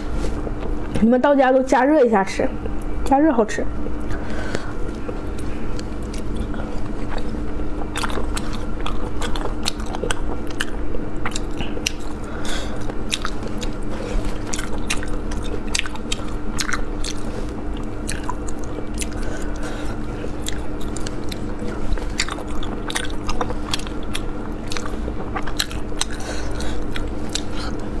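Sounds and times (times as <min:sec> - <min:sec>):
steady low hum: 0:00.0 - 0:28.0
close chewing and mouth sounds: 0:03.8 - 0:28.0.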